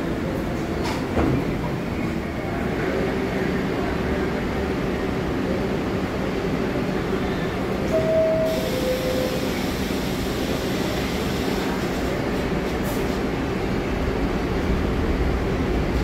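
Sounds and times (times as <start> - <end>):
subway train equipment humming: 0.0 - 16.0.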